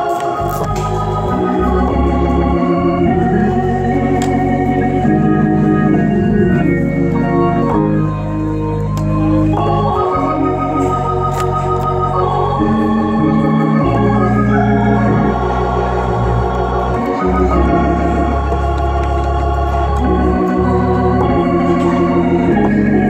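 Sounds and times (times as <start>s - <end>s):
organ playing gospel chords: 0.0s - 23.0s.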